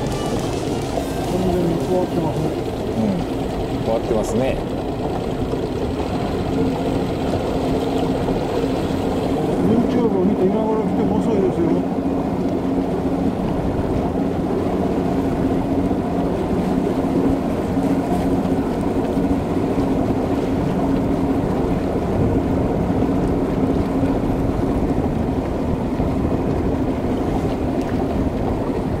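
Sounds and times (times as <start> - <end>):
outboard motor humming: 0.0 - 29.0.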